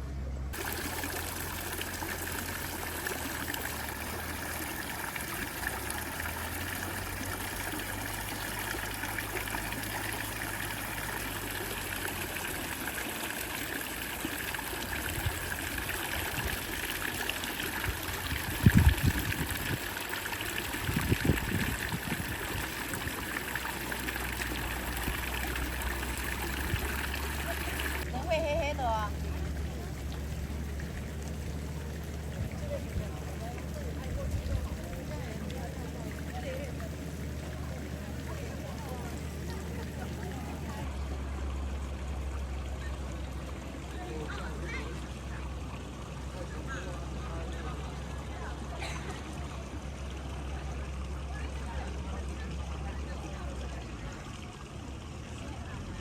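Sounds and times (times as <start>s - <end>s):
water trickling: 0.5s - 56.0s.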